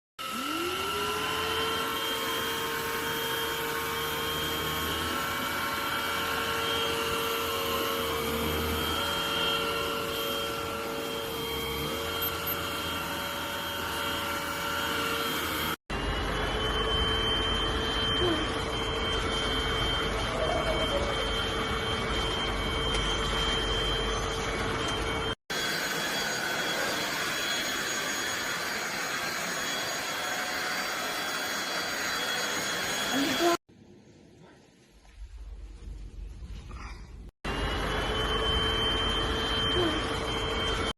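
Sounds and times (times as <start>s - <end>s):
vacuum cleaner motor whining: 0.2s - 33.6s, 37.5s - 40.9s.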